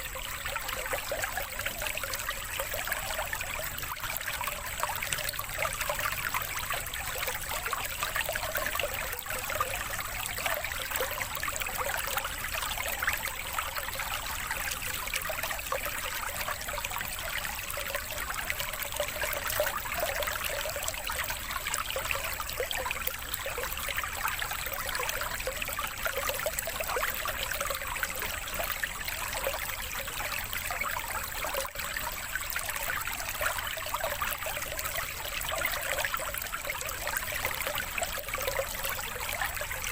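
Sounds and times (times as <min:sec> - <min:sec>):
trickling running water: 0:00.0 - 0:39.9.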